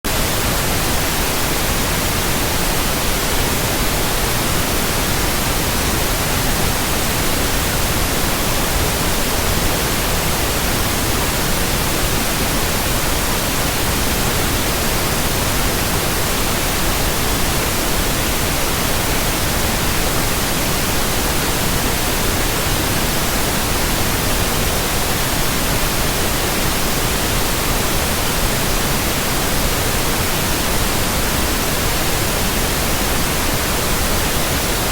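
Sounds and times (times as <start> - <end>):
white noise hiss: 0.1 - 34.9.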